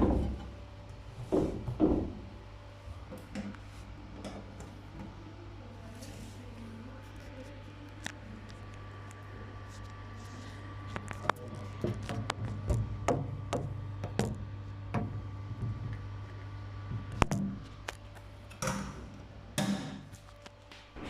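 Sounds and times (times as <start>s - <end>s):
washing machine hum: 0.0s - 21.0s.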